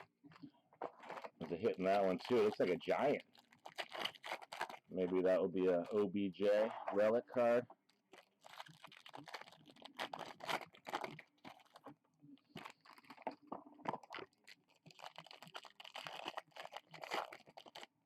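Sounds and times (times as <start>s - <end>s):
foil wrappers crinkling and tearing: 0.8s - 6.1s, 7.9s - 11.9s, 12.5s - 18.0s.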